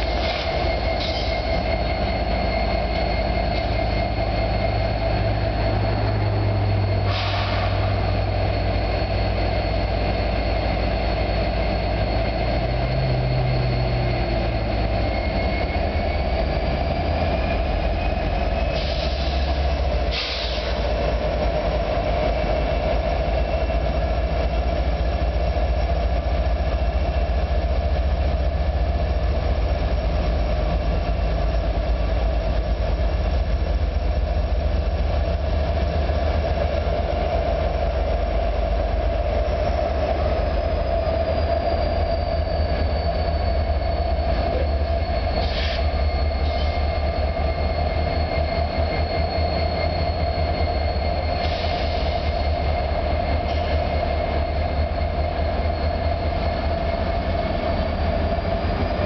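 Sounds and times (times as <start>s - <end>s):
diesel locomotive rumble: 0.0s - 59.0s
freight train rolling: 0.0s - 59.0s
steel wheel squeal: 0.0s - 59.0s.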